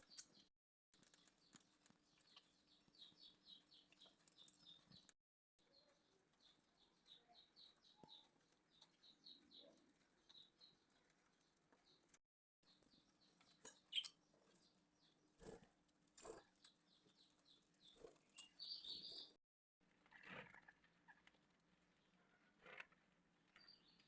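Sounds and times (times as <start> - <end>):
small birds chirping: 0.0 - 19.4, 20.1 - 24.0.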